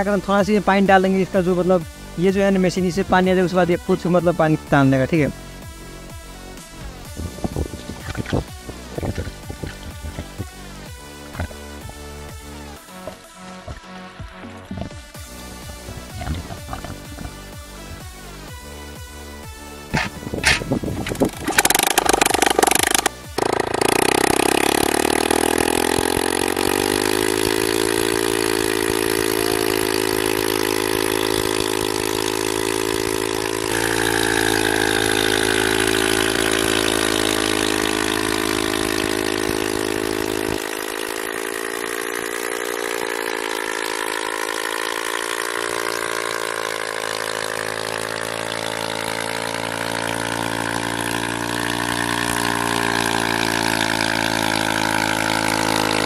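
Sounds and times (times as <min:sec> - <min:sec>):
motorcycle engine running under load: 0:00.0 - 0:56.0.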